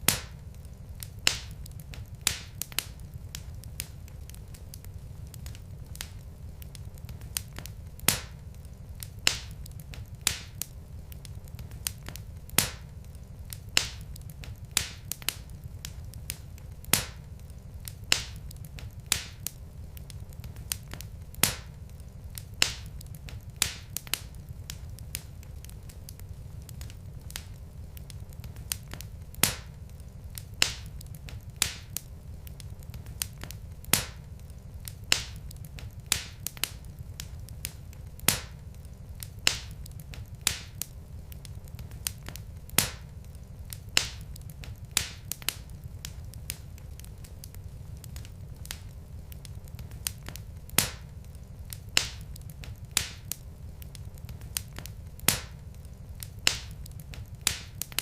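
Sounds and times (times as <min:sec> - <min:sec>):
low rumble of fire: 0:00.0 - 0:58.0
wood fire crackling and popping: 0:00.0 - 0:58.0.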